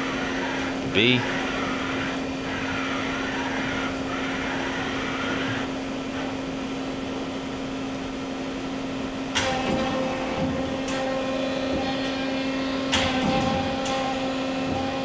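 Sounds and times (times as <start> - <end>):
machine slide wavering whine: 0.0 - 7.6, 9.3 - 15.0
machine steady hum: 0.0 - 15.0.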